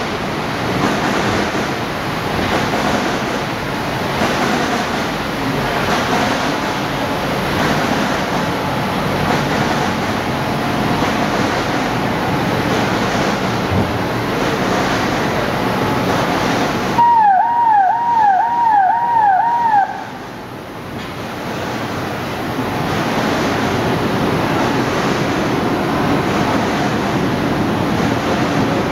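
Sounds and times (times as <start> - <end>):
printing press running: 0.0 - 17.0, 20.2 - 28.9.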